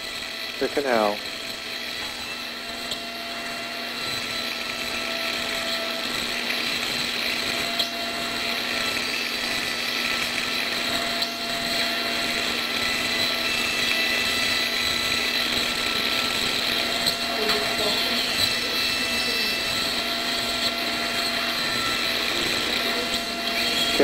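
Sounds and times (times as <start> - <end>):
surgical drill whining: 0.0 - 24.0.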